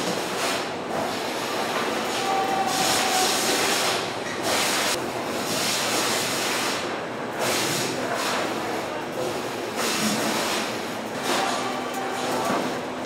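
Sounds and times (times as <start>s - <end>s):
conveyor machinery noise: 0.0s - 13.0s.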